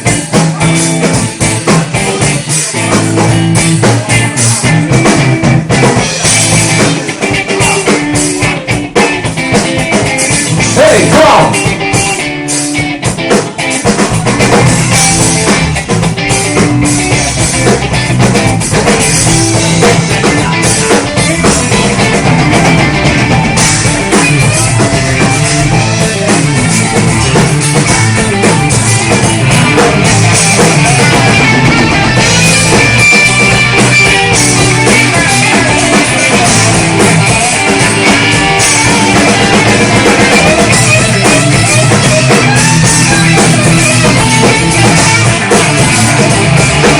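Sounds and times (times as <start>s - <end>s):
drum kit: 0.0s - 46.9s
electric guitar: 0.0s - 46.9s.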